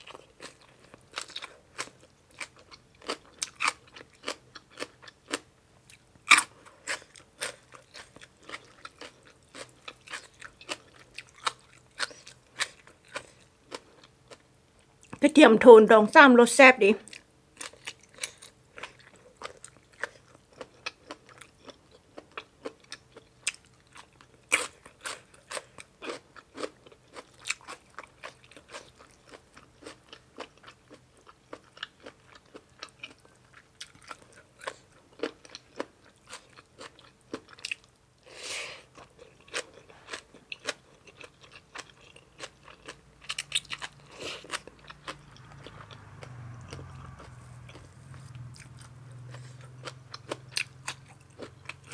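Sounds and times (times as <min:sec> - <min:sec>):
chewing crunchy food: 0:00.0 - 0:15.2, 0:17.1 - 0:51.9.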